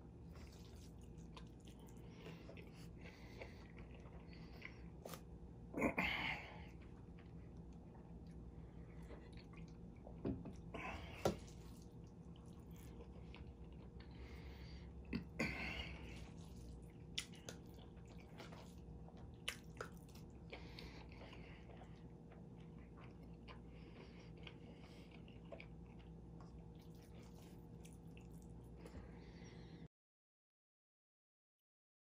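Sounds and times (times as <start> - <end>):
man chewing food: 0.0 - 29.8
faint steady hum: 0.0 - 29.9.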